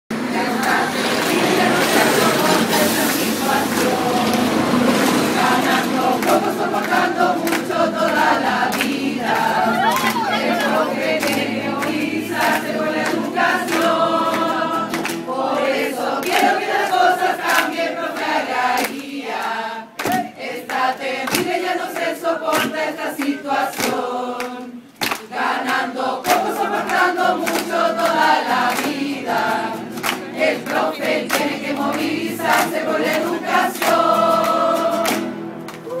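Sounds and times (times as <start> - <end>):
acoustic guitar: 0.1 - 36.0
group of voices singing: 0.1 - 36.0
hand claps: 3.7 - 36.0.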